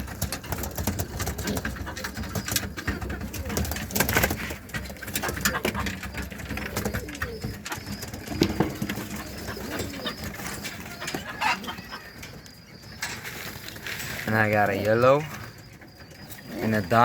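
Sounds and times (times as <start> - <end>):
clicks and rustling from birds: 0.0 - 17.0
pigeons cooing: 0.0 - 17.0.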